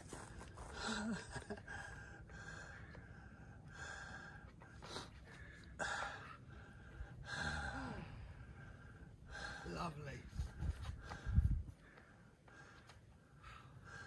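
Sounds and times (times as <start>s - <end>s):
person breathing hard: 0.1s - 9.8s, 10.6s - 14.0s.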